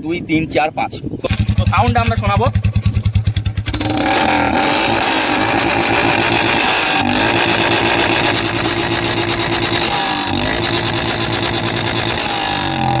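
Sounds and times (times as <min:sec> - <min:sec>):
motorcycle engine running: 0:01.2 - 0:13.0.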